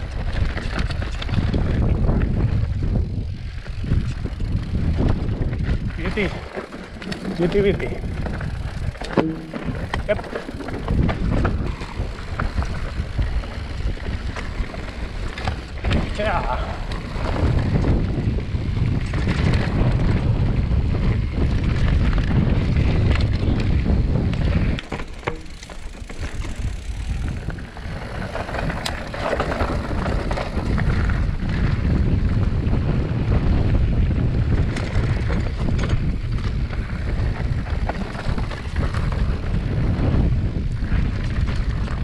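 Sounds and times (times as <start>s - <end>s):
bike clattering over trail: 0.0s - 42.0s
wind rumble on microphone: 0.0s - 42.0s.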